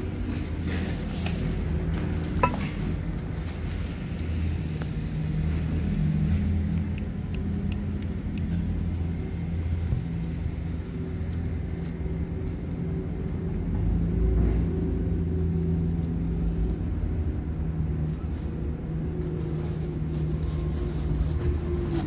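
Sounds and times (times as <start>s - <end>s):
low motor drone: 0.0s - 22.0s.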